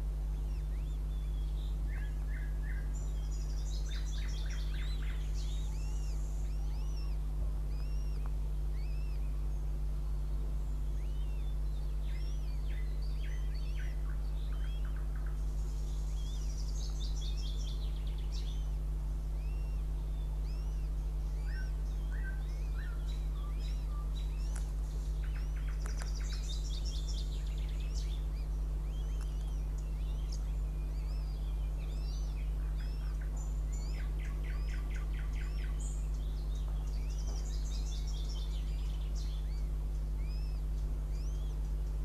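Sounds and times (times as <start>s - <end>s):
low electrical hum: 0.0s - 42.0s
small birds chirping and trilling: 0.0s - 42.0s.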